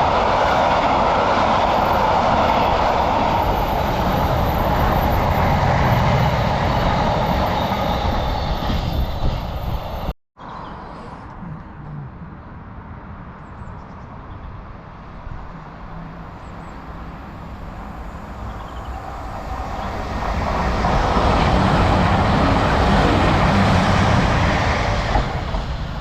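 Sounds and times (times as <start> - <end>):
train passing: 0.0 - 10.1, 15.2 - 26.0.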